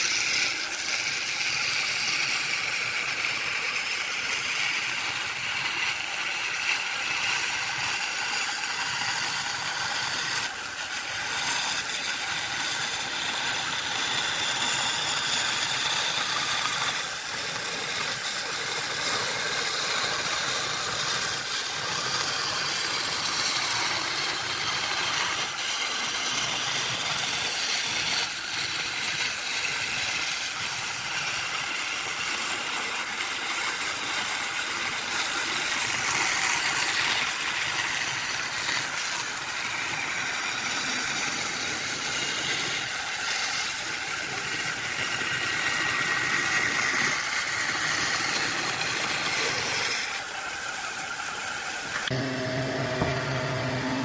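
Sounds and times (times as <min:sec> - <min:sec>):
turning tool scraping wood: 0:00.0 - 0:50.9
wood lathe running: 0:00.0 - 0:54.0.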